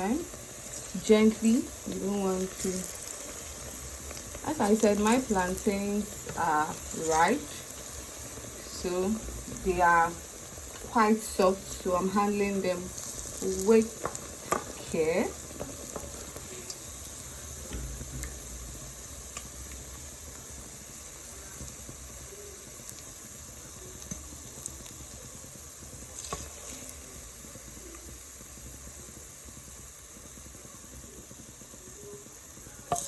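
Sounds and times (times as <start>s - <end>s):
frying in hot oil sizzling: 0.0s - 33.0s.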